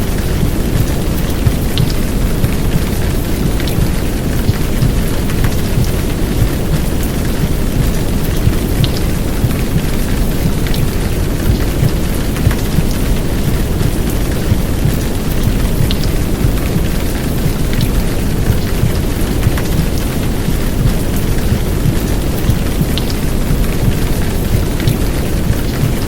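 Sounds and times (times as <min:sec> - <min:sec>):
heavy rain downpour: 0:00.0 - 0:26.0
raindrop ticks: 0:00.0 - 0:26.0.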